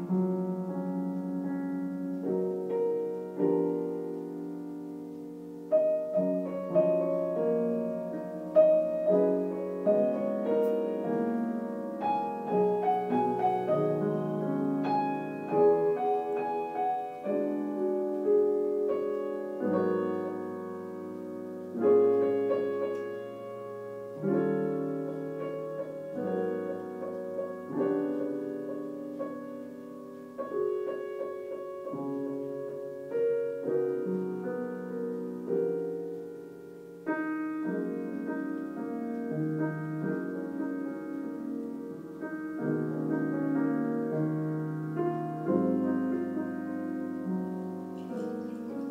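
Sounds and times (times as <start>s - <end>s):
slow piano piece: 0.0s - 48.9s.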